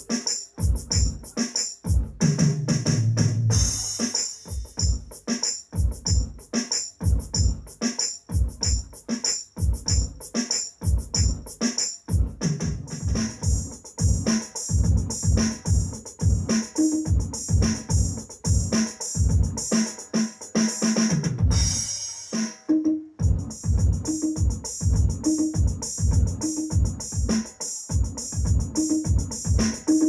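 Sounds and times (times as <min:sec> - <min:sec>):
electronic drum groove: 0:00.0 - 0:30.0.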